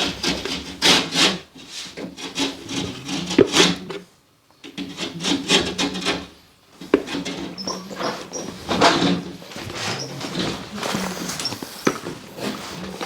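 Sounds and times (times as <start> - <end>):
plasterboard rasping strokes: 0.0 - 4.0, 4.8 - 13.0.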